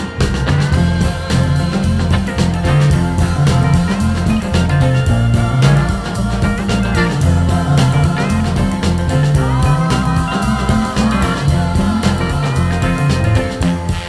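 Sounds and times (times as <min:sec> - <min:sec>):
electric guitar lead: 0:00.0 - 0:14.0
steady drum beat: 0:00.0 - 0:14.0
walking bass line: 0:00.0 - 0:14.0.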